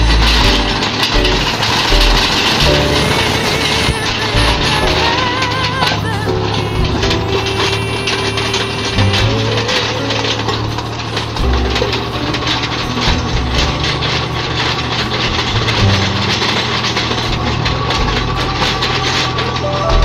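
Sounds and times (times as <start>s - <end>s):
rough scraping noise: 0.0s - 20.0s
tractor diesel engine running: 0.0s - 20.0s.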